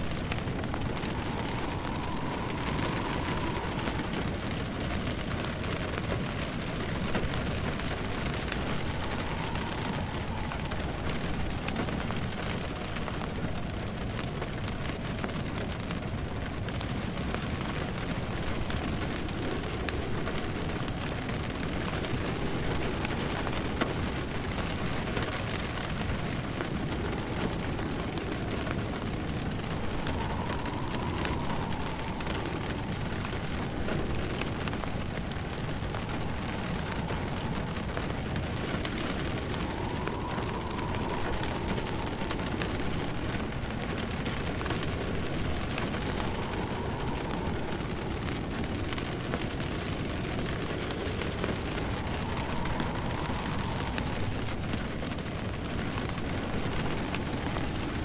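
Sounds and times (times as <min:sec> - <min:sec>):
steady rain hiss: 0:00.0 - 0:58.0
wood fire crackling: 0:00.0 - 0:58.0.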